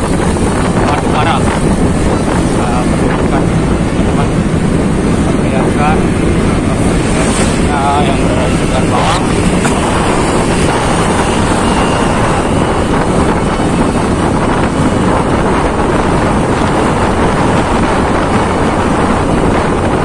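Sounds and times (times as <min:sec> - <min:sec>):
motorbike engine and road noise: 0:00.0 - 0:20.0
wind buffeting microphone: 0:00.0 - 0:20.0.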